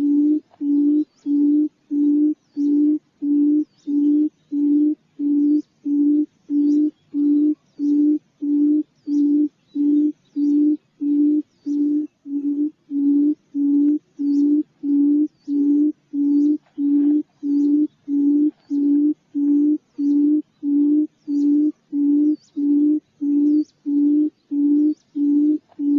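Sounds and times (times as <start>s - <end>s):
faint high chirps: 0.0s - 25.9s
quail call low hooting: 0.0s - 25.9s.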